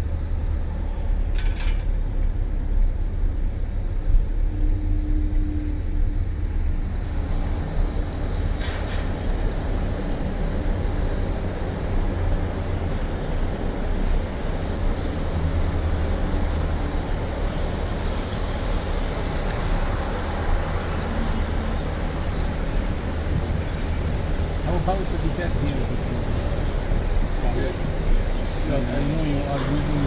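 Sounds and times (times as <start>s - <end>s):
machinery running with low hum: 0.0s - 30.0s.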